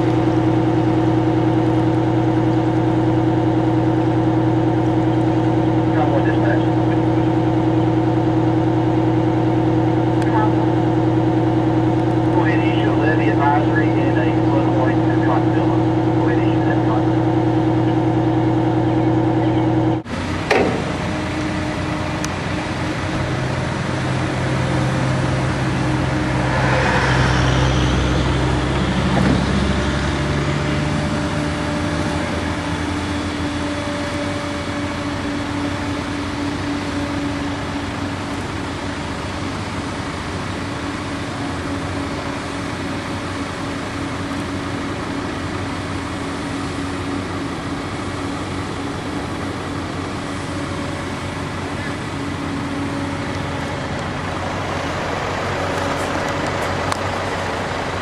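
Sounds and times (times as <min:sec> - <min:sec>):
crane engine running: 0:00.0 - 0:58.0
vehicle engine idling: 0:00.0 - 0:58.0.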